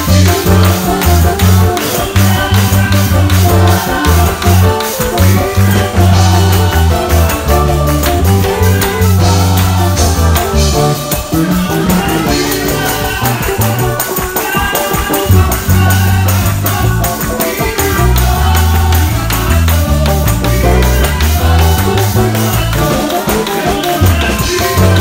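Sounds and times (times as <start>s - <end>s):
gospel music with drums and bass: 0.0s - 25.0s
hand-claps: 0.0s - 25.0s
tambourine: 0.0s - 25.0s
voices singing: 0.0s - 25.0s.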